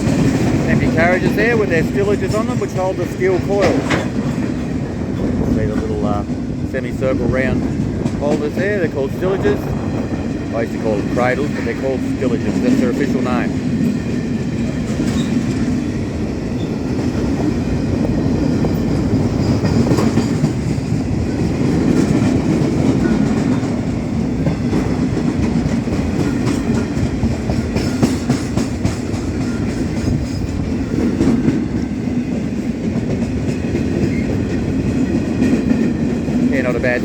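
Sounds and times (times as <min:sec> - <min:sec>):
freight wagons rumbling on rails: 0:00.0 - 0:37.0
wheels clacking over rail joints: 0:00.0 - 0:37.0.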